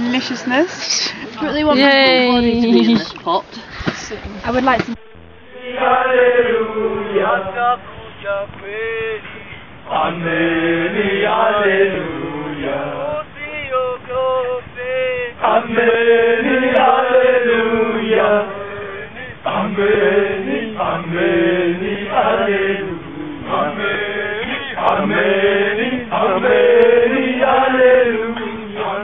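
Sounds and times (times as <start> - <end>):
group singing chant-like phrases: 0.0 - 29.0.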